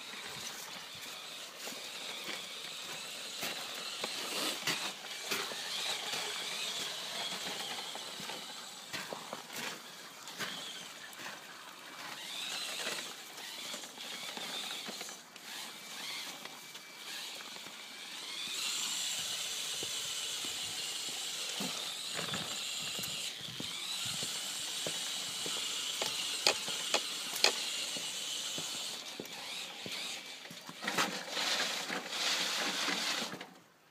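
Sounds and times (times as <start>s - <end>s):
toy car motor whining: 0.0s - 33.5s.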